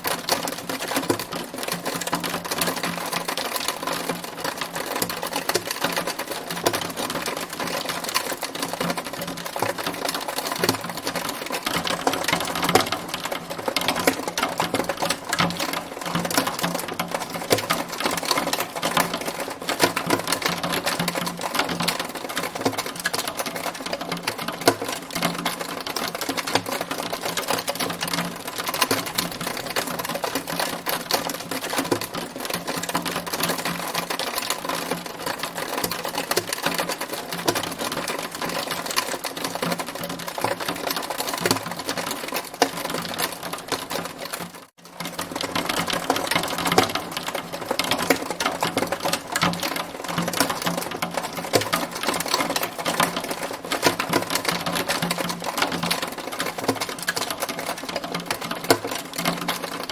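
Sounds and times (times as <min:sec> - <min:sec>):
hail pelting a hard surface: 0:00.0 - 0:59.9.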